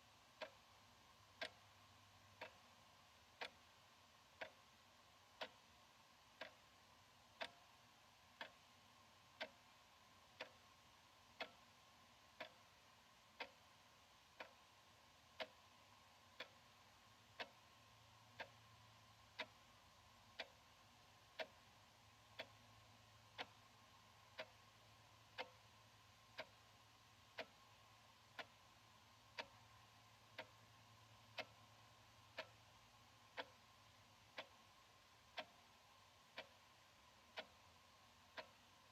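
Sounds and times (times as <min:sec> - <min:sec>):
wall clock ticking: 0:00.0 - 0:38.9.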